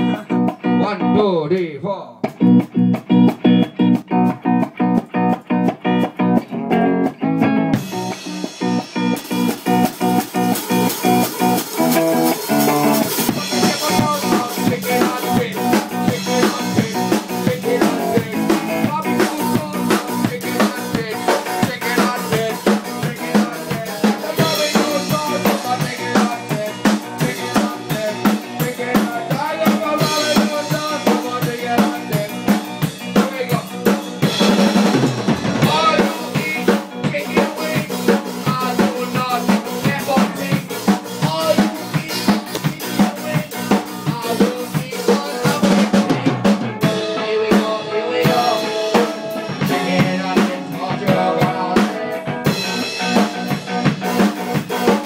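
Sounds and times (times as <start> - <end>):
ska band playing: 0.0 - 55.0
snare and bass drum beat: 2.2 - 5.1, 7.8 - 55.0.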